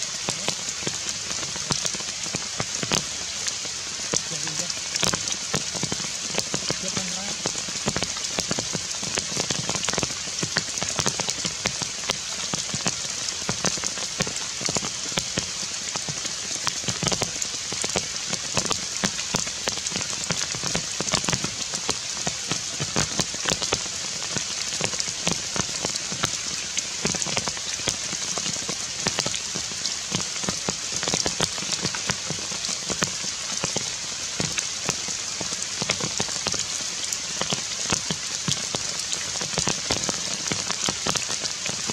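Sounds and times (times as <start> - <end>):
heavy rain on leaves: 0.0 - 41.9.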